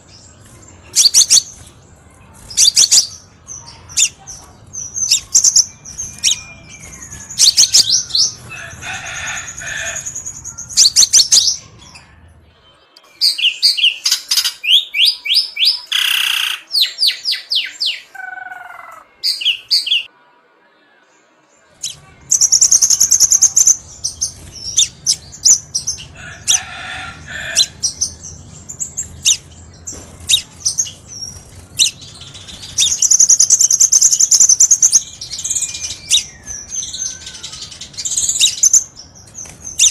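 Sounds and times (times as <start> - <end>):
bird song chirps and trills: 0.0 - 20.1, 21.4 - 39.9.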